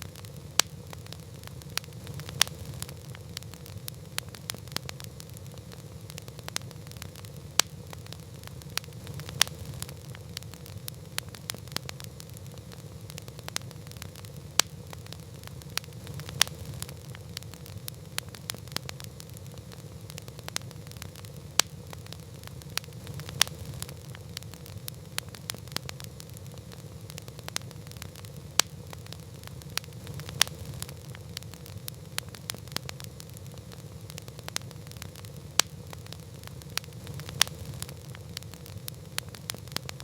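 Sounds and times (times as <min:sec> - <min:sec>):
campfire pops and snaps: 0:00.0 - 0:40.0
low rumble of burning fire: 0:00.0 - 0:40.0.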